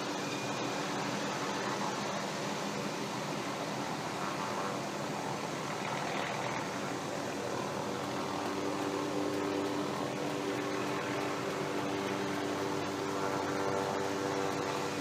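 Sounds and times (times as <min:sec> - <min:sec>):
helicopter drone: 0:00.0 - 0:15.0.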